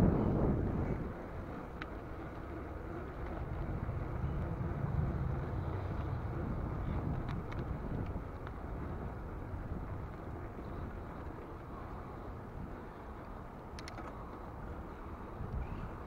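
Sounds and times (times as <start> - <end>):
bicycle tyres rolling over bricks: 0.0 - 16.0
wind rumbling on microphone: 0.0 - 16.0.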